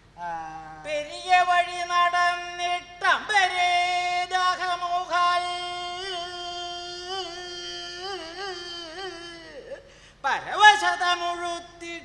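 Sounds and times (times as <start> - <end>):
man chanting a verse: 0.2 - 12.0.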